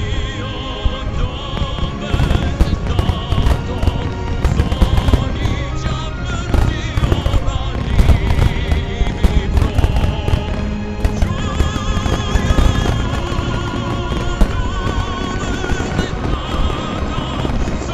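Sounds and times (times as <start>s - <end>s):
fireworks bangs and crackles: 0.0s - 17.9s.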